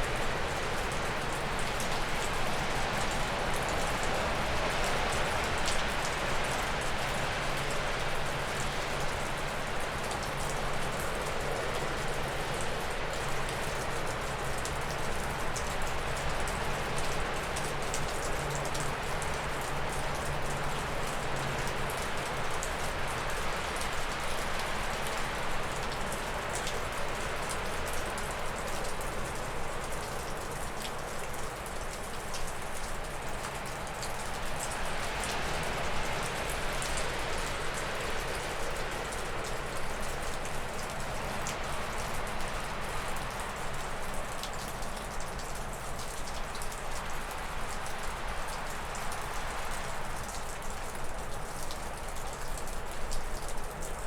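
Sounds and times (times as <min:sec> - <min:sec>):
water dripping off roof: 0:00.0 - 0:54.0.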